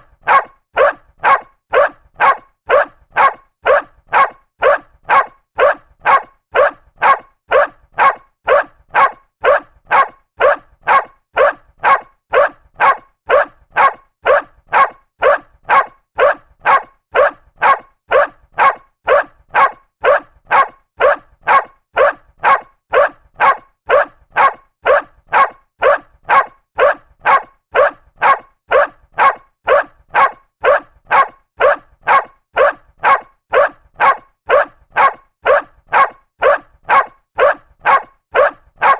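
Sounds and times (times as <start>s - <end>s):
dog barking: 0.0s - 38.9s.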